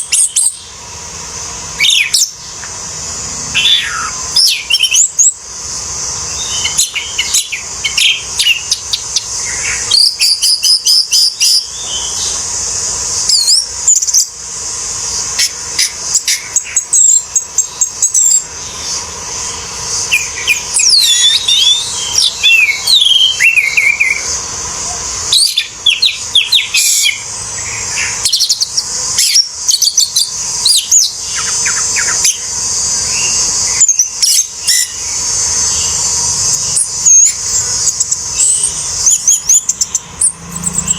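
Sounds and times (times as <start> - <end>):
steady high hiss: 0.0 - 40.9
thrush singing: 0.6 - 40.9.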